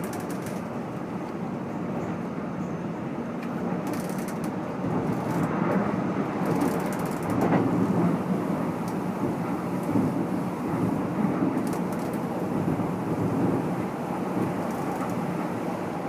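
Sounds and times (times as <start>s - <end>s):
wheels on rail: 0.0s - 16.0s.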